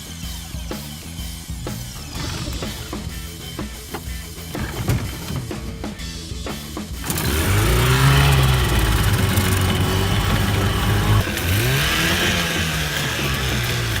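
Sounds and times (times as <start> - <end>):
outboard motor revving: 2.0 - 14.0.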